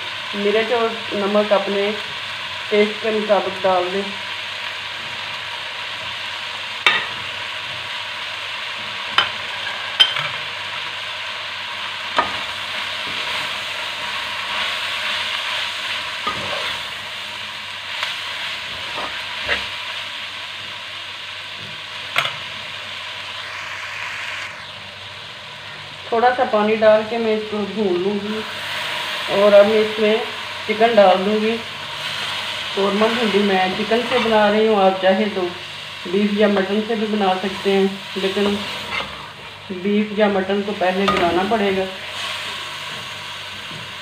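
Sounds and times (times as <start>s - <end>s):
onions sizzling in hot oil: 0.0s - 44.0s.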